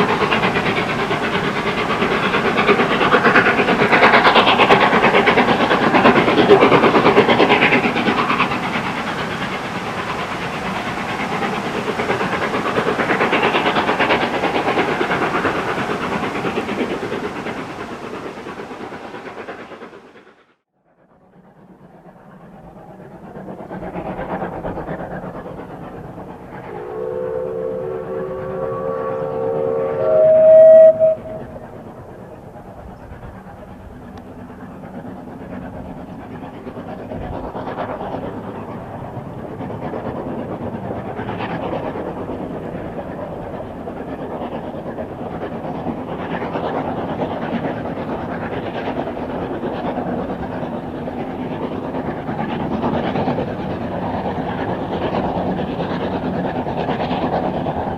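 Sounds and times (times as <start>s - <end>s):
steam locomotive exhaust beating: 0.0s - 57.9s
train rumbling on rails: 0.0s - 57.9s.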